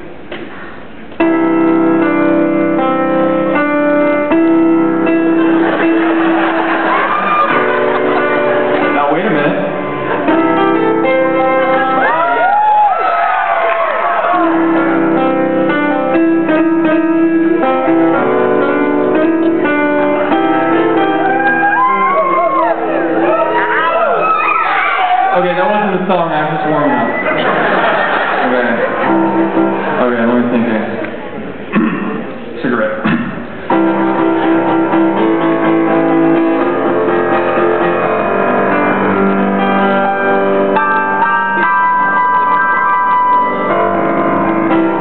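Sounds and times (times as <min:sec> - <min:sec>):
grand piano chords: 0:00.0 - 0:45.0.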